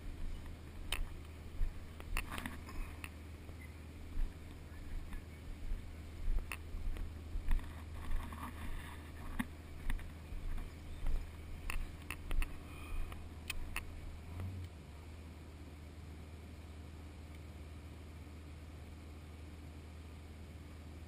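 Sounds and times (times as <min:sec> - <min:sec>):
steady low rumble: 0:00.0 - 0:18.7.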